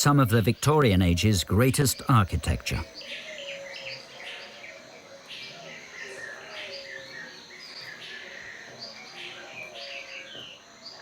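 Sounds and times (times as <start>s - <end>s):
birds chirping: 0.0s - 11.0s
outdoor ambience: 0.0s - 11.0s.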